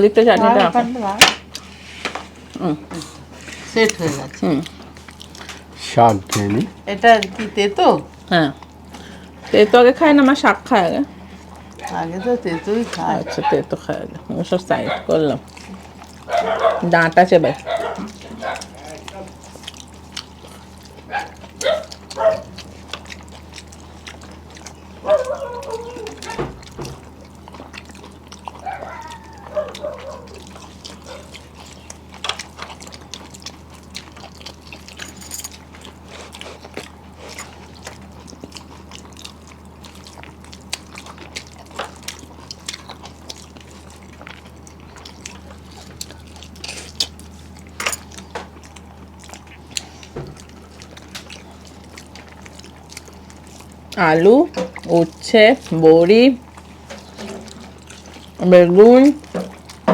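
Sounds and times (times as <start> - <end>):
chewing and lip smacks: 1.4 - 7.5, 11.0 - 14.2, 14.8 - 59.9.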